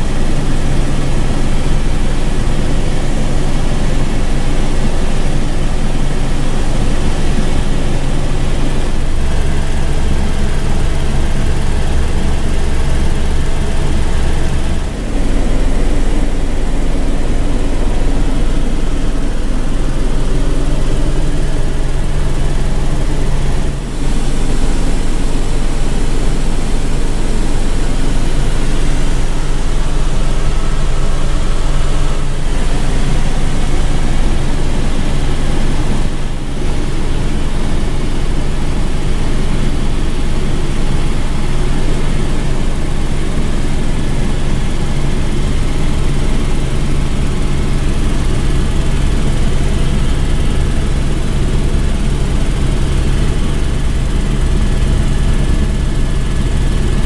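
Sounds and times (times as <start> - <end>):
helicopter rotor and turbine noise: 0.0 - 57.0.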